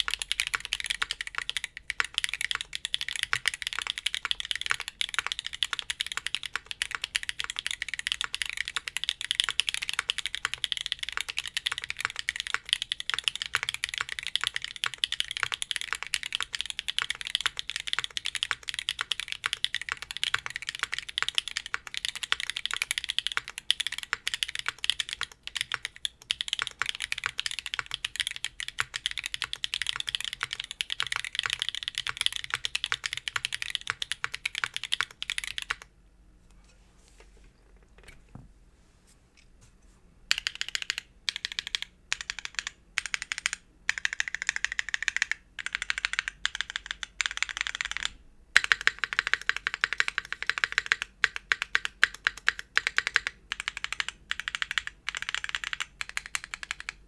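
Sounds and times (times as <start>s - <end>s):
fast typing on mechanical keyboard: 0.0s - 35.9s, 40.3s - 57.0s.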